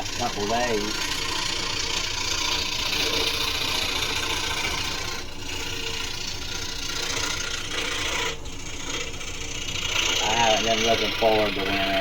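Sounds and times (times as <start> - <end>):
scroll saw cutting wood: 0.0 - 12.0.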